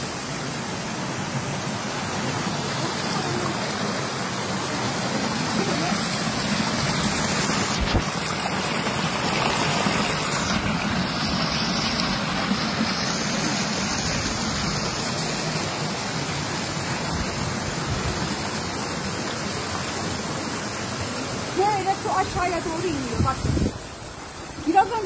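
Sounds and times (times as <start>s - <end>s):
water cascading down channel: 0.0s - 25.0s.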